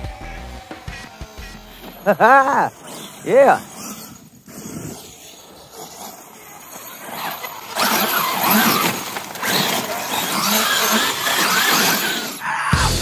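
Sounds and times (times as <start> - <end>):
electric motor whine of rc truck: 0.0 - 13.0.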